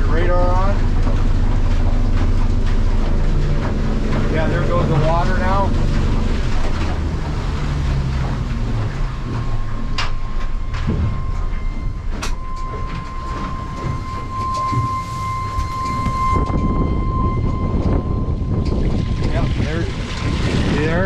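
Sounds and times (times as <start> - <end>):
hull on water: 0.0 - 21.0
outboard motor rumble: 0.0 - 21.0
high-pitched pump squeak: 0.1 - 21.0.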